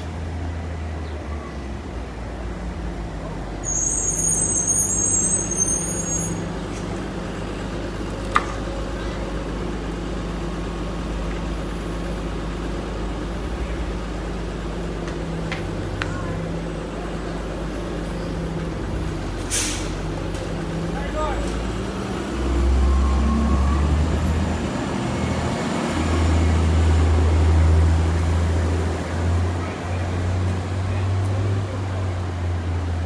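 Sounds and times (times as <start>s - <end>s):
bus engine idling hum: 0.0s - 33.0s.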